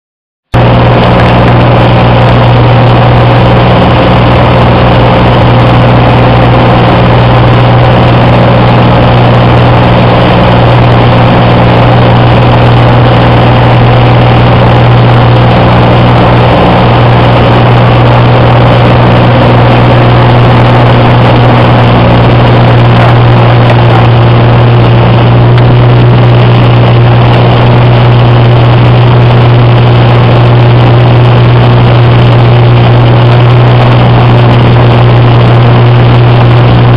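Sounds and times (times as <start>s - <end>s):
light aircraft engine droning: 0.6s - 36.9s.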